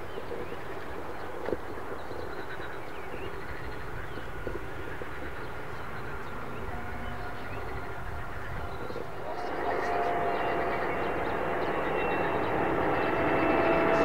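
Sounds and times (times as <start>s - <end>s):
distant jet aircraft rumble: 0.0s - 14.0s.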